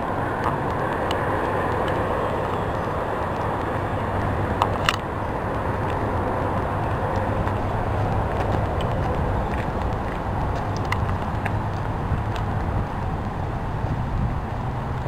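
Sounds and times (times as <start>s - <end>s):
rain on forest canopy: 0.0s - 15.0s.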